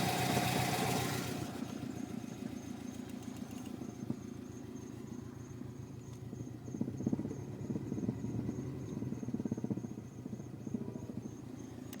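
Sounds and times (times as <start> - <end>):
car engine idling with thumping: 0.0 - 12.0.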